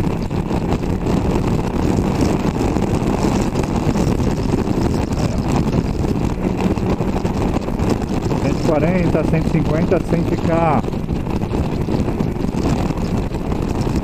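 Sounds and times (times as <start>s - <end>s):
motorcycle engine at speed: 0.0s - 14.0s
wind noise: 0.0s - 14.0s.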